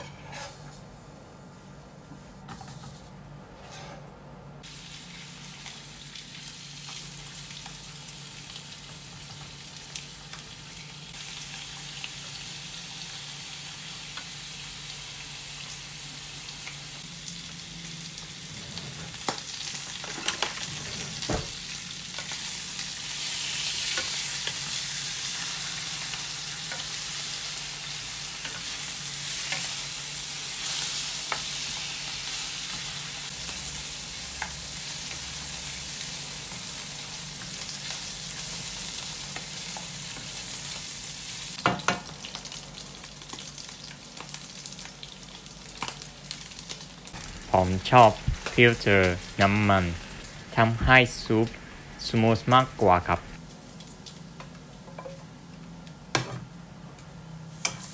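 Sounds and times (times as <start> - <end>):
meat sizzling in a frying pan: 4.6 - 55.1.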